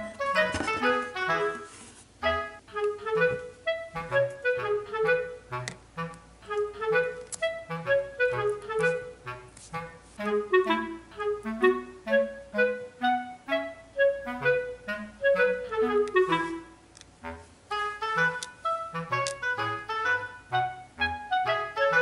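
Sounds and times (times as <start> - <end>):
bouncy background music: 0.0 - 22.0.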